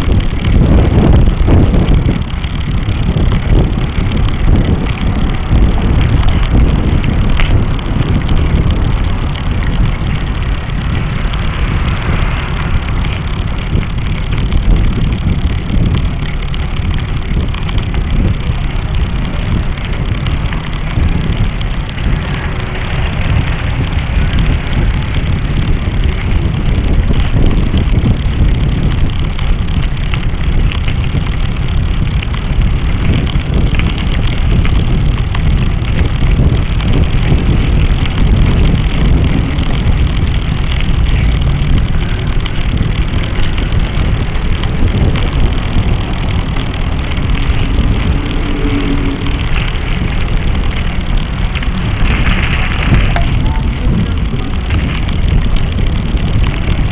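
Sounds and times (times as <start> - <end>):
knocks and rattles from pavement: 0.0 - 56.9
road rumble: 0.0 - 56.9
wind buffeting: 0.0 - 56.9.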